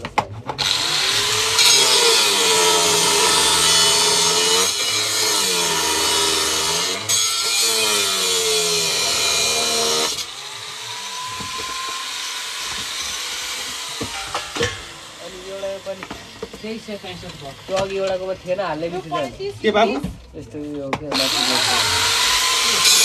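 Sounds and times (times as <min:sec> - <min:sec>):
angle grinder grinding metal: 0:00.5 - 0:19.6, 0:21.1 - 0:23.0.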